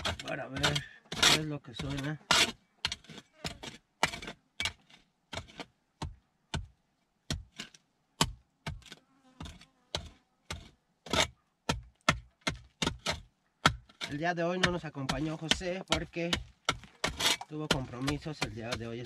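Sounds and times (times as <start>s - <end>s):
hand shovel chopping stony dirt: 0.0s - 19.0s.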